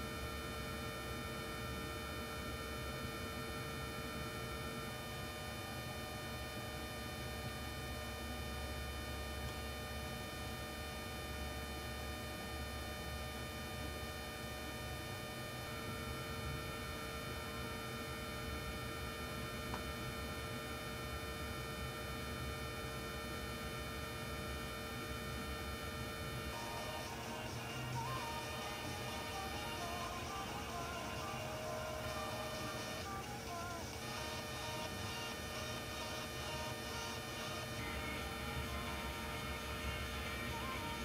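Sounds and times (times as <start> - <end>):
electrical hum and hiss: 0.0 - 41.0.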